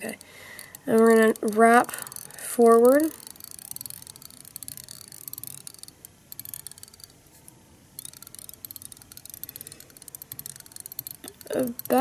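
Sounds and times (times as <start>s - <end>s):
rapid faint ticking: 0.0s - 12.0s.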